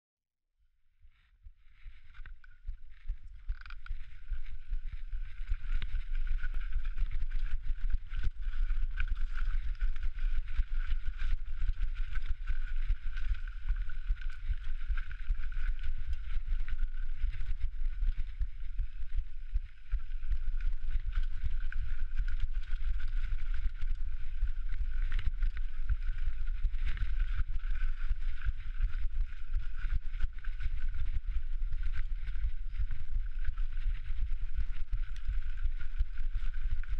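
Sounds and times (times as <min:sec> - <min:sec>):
bike tyres rattling over rock: 0:02.4 - 0:36.9.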